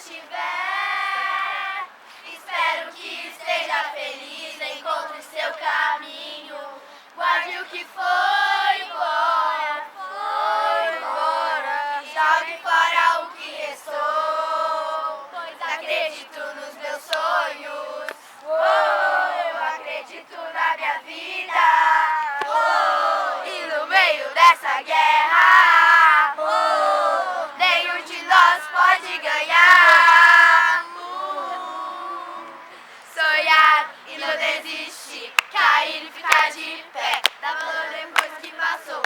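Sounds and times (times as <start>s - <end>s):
children singing and chanting: 0.0s - 39.0s.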